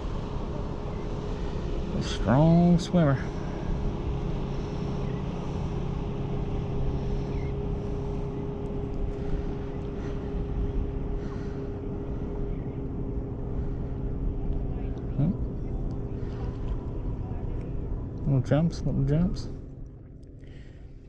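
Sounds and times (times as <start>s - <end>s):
motor droning: 0.0s - 21.0s
wind: 0.0s - 21.0s.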